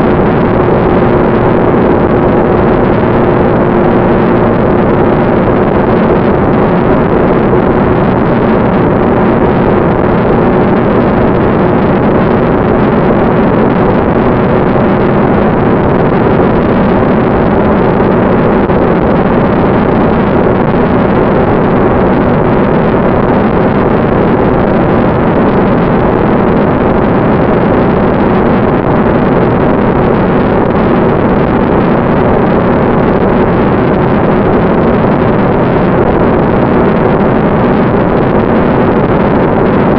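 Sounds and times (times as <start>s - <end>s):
air rush: 0.0s - 39.9s
ducted fan whining: 0.0s - 39.9s.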